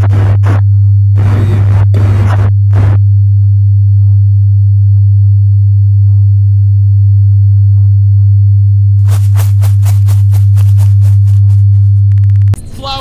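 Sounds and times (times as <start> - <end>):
low electronic hum: 0.0 - 13.0.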